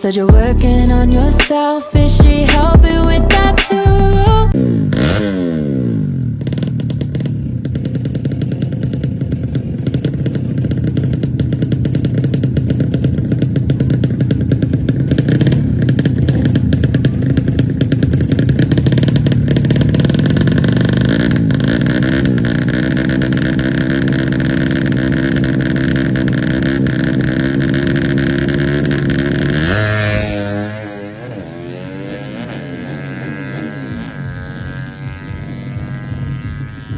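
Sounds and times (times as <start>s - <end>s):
motorcycle engine running loudly: 0.3s - 36.9s.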